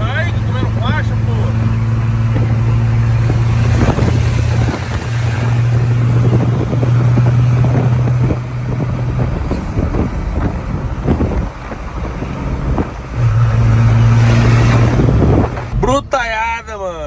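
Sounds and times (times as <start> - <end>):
knocks and rattles: 0.0 - 15.8
pickup truck engine drone: 0.0 - 17.0
road and wind noise: 0.0 - 17.0.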